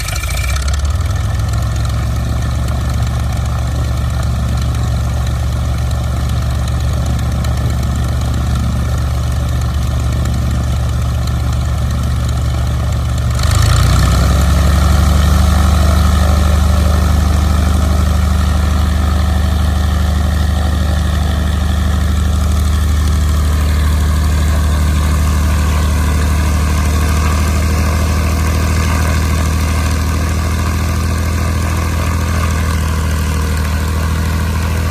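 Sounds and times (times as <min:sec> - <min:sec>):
propeller aircraft engine running: 0:00.0 - 0:34.9.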